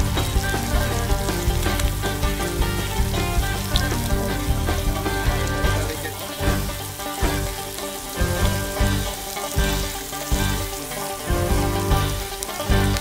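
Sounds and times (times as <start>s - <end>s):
background music: 0.0s - 13.0s
meat sizzling on a griddle: 0.0s - 13.0s.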